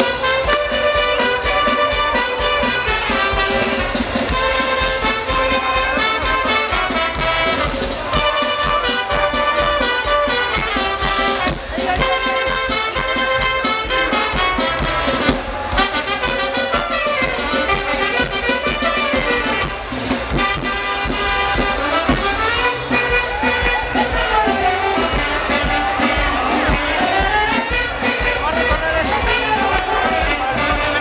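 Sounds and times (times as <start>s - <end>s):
brass band music: 0.0s - 31.0s.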